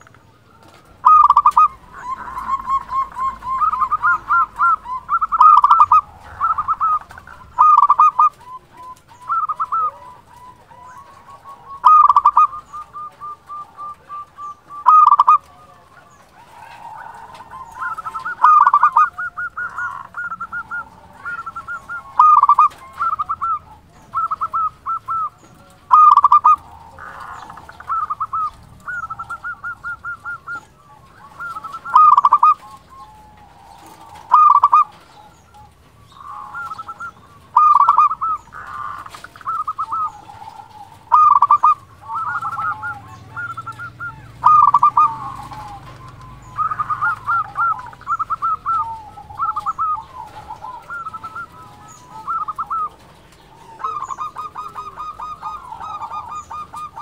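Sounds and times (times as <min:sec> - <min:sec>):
doves cooing: 0:00.0 - 0:57.0.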